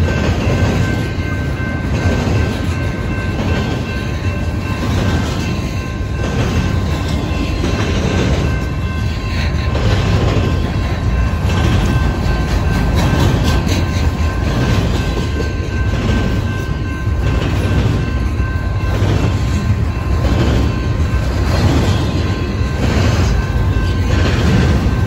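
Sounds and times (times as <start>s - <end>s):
steel wheels clattering over rails: 0.0s - 25.0s.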